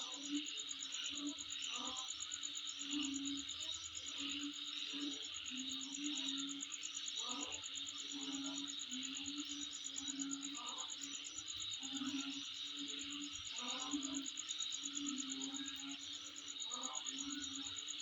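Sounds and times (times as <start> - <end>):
continuous insect buzz: 0.0 - 18.0
insects trilling: 0.0 - 18.0.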